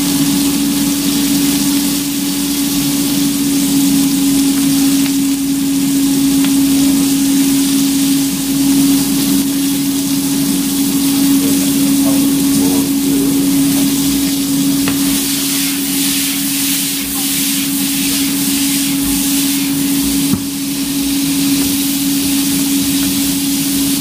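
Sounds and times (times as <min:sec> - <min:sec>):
green beans sizzling in oil: 0:00.0 - 0:24.0
steady hum: 0:00.0 - 0:24.0.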